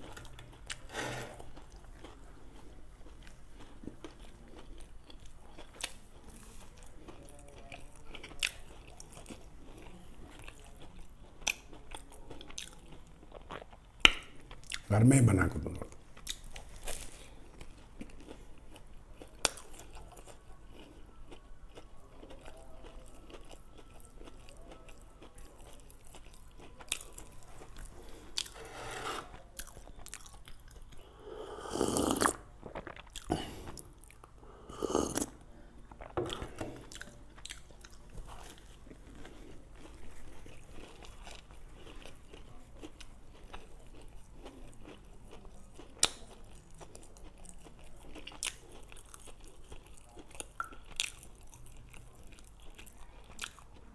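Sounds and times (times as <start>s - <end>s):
donuts being chewed: 0.0s - 14.9s, 15.9s - 53.9s.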